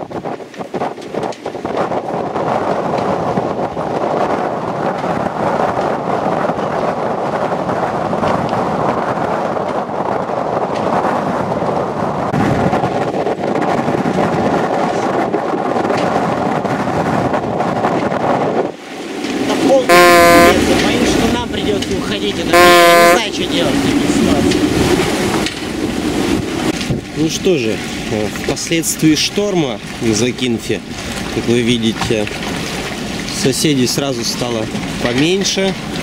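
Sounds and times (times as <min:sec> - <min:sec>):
storm wind buffeting microphone: 0:00.0 - 0:36.0.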